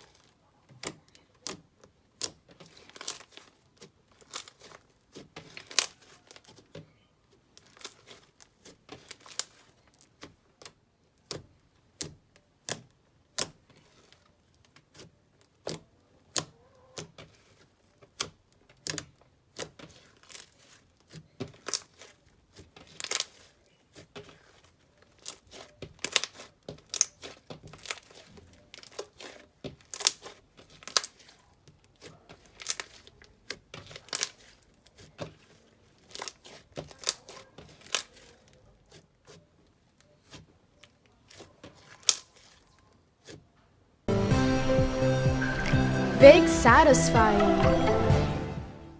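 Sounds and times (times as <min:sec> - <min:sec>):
slime popping and crackling: 0:00.0 - 0:06.8, 0:07.5 - 0:39.4, 0:40.2 - 0:43.4.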